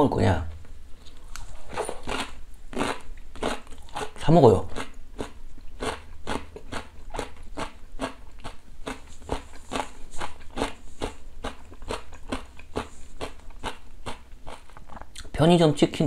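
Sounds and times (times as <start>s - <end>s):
chewing crunchy food: 1.0s - 15.3s.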